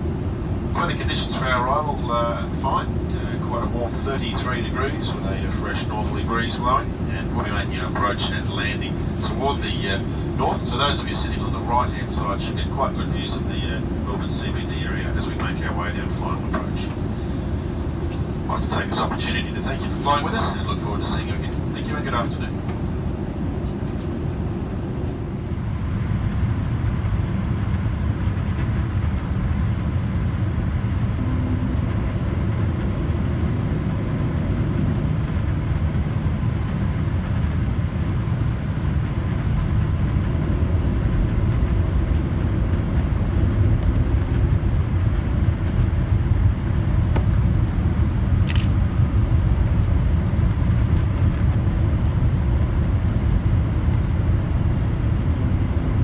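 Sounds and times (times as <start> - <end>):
airliner engines rumbling in cabin: 0.0 - 56.0.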